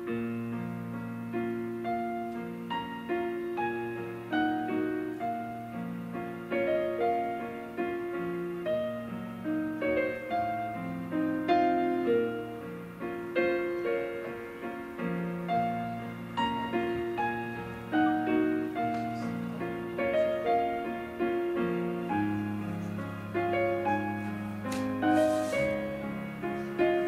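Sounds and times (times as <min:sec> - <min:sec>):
keyboard piano chords and melody: 0:00.0 - 0:27.0.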